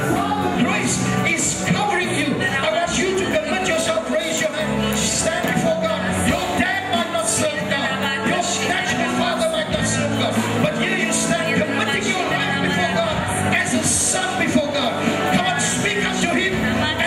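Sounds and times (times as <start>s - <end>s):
worship music with singing: 0.0s - 17.0s.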